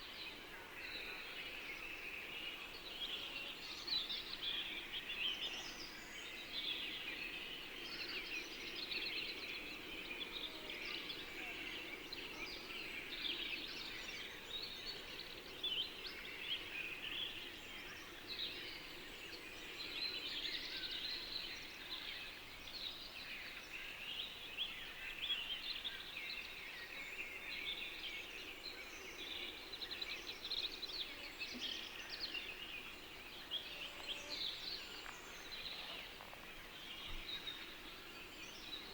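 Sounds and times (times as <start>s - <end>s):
small birds chirping and singing: 0.0s - 38.9s.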